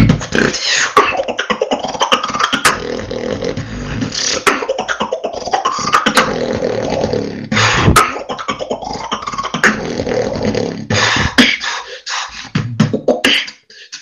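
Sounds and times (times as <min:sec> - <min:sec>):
beatboxing: 0:00.0 - 0:14.0.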